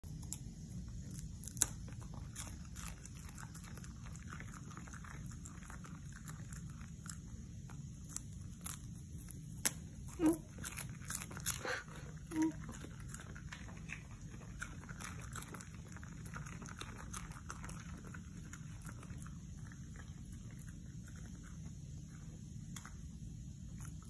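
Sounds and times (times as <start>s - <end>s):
dog crunching cabbage: 0.0s - 22.9s, 23.6s - 24.0s.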